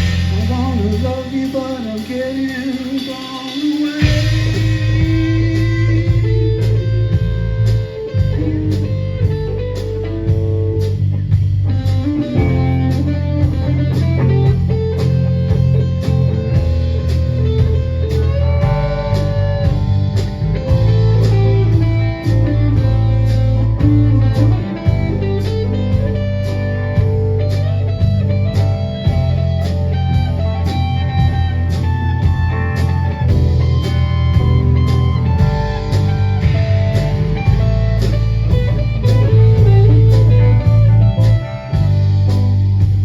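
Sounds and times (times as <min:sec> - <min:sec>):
bass guitar: 0:00.0 - 0:43.0
drums: 0:00.0 - 0:43.0
electric guitar: 0:00.0 - 0:43.0.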